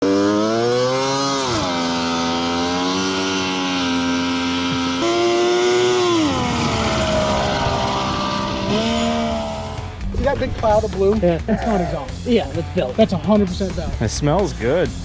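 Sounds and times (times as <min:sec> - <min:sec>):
two-stroke engine revving: 0:00.0 - 0:12.8.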